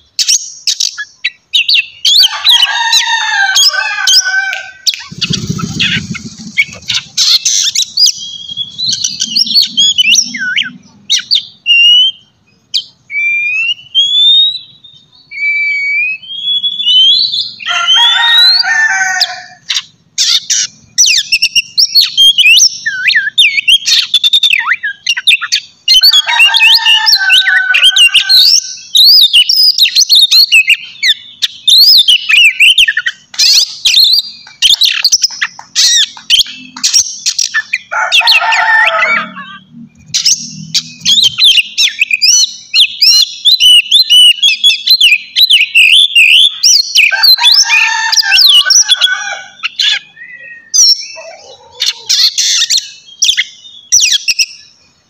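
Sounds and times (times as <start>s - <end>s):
songbird singing whistles and chirps: 0.0s - 55.0s.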